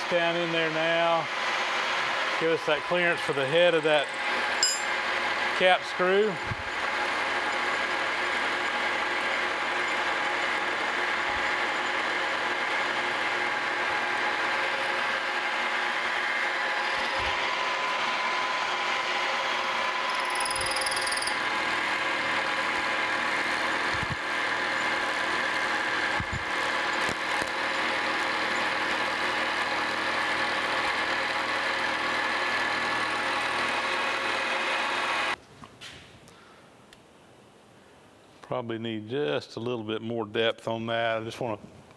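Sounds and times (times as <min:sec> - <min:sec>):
metal cutting noise: 0:00.0 - 0:35.4
milling machine motor hum: 0:00.0 - 0:35.4.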